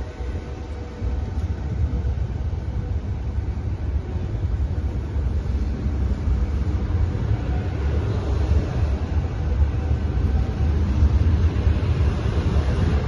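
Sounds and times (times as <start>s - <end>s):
train rumbling slowly: 0.0s - 13.0s.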